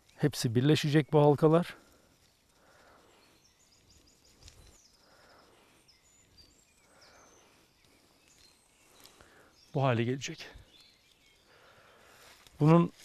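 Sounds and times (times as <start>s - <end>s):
faint high-pitched chirps: 0.0s - 13.0s.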